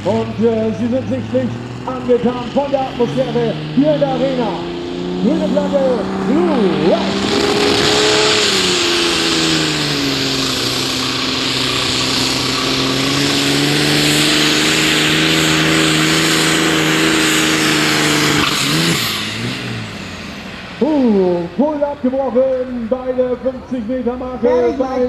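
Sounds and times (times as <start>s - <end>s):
diesel engine under full load: 0.0s - 25.0s
turbo and exhaust hiss: 0.0s - 25.0s.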